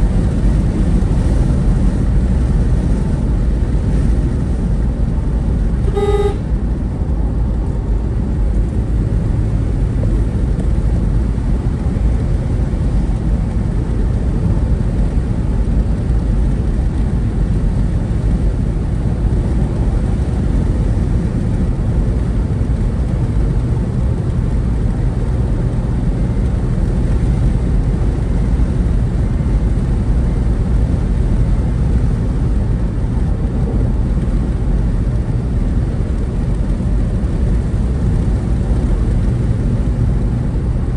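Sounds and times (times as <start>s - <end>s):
vehicle driving on road: 0.0s - 40.9s.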